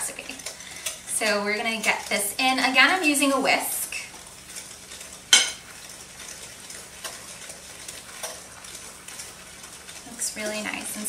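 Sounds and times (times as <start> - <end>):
whisk stirring in glass bowl: 0.2 - 11.0.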